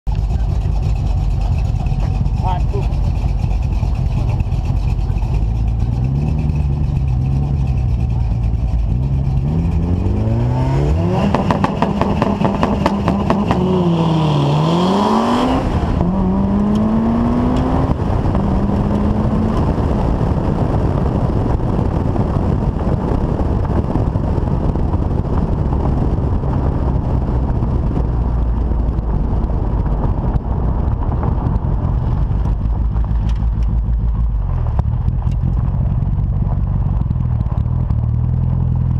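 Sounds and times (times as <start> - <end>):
wind and road noise: 0.0 - 38.9
turbocharged car engine revving: 0.1 - 38.9.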